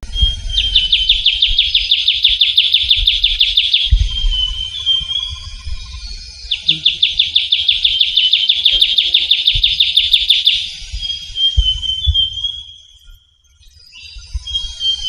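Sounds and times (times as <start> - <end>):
bird trilling song: 0.1 - 15.0.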